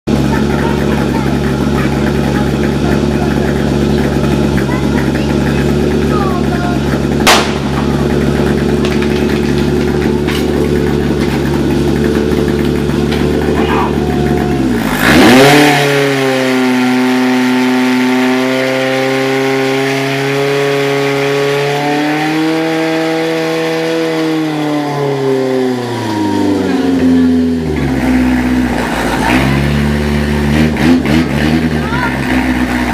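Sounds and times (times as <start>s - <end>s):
fire pump engine revving: 0.1s - 32.9s.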